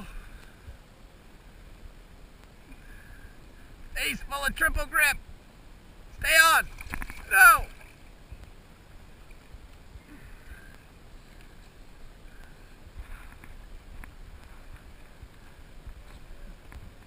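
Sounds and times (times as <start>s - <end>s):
faint water sounds: 0.0s - 17.0s
wind rumble on microphone: 1.5s - 17.0s.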